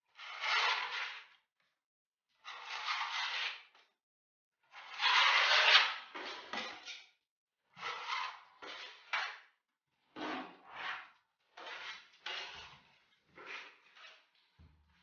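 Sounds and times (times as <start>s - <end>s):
knife scraping plaster filler: 0.1s - 1.4s, 2.4s - 3.8s, 4.7s - 14.4s.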